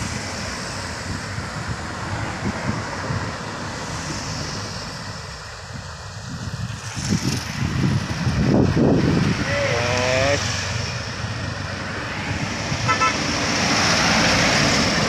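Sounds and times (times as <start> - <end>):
wind buffeting microphone: 0.0 - 15.0
truck engine labouring: 0.8 - 15.0.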